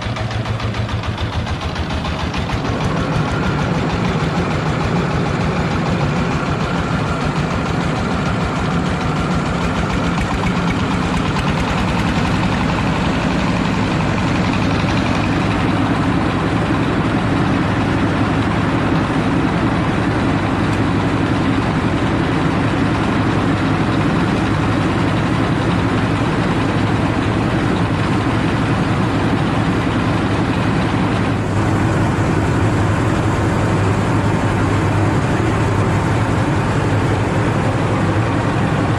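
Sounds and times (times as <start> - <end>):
diesel engine humming: 0.0 - 38.9
rice-hulling machine running: 0.0 - 38.9.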